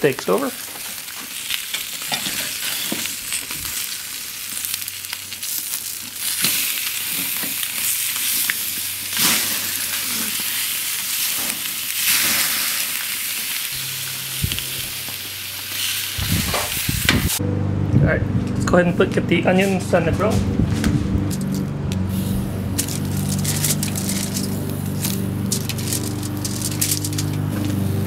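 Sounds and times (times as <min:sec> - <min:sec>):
steaks sizzling on grill: 0:00.0 - 0:17.4, 0:22.1 - 0:28.0.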